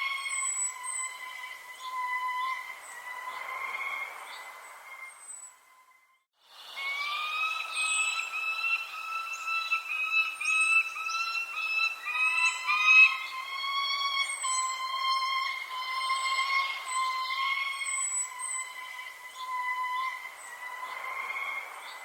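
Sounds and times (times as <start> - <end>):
high falling bird chirps: 0.0 - 5.9, 6.6 - 22.0
bird calls with strong overtones: 0.0 - 22.0.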